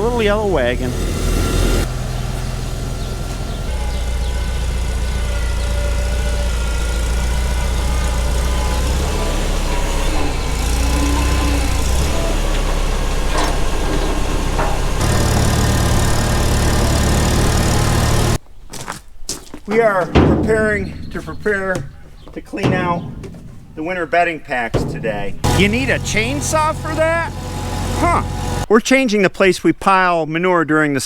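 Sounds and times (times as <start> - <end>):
tractor engine running: 0.0 - 18.4, 19.8 - 28.7.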